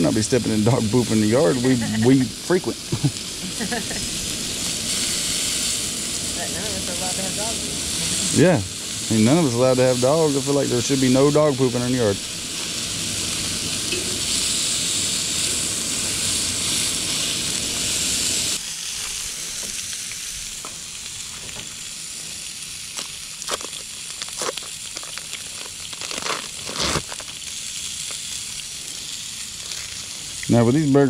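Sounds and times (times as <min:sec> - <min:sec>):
burgers sizzling on a griddle: 0:00.0 - 0:31.0.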